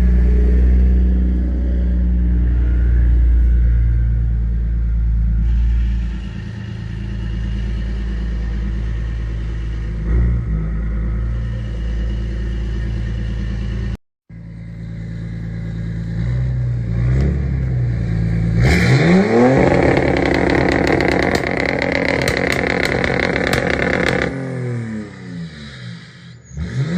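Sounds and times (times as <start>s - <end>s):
diesel engine revving: 0.0s - 26.9s.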